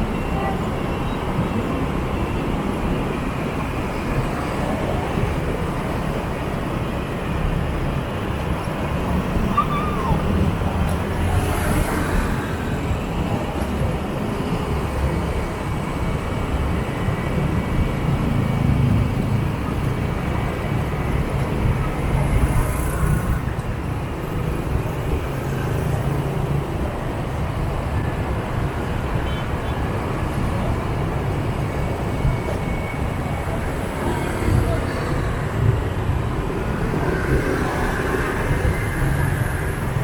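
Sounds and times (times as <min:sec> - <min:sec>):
motorbike traffic rumble: 0:00.0 - 0:40.0.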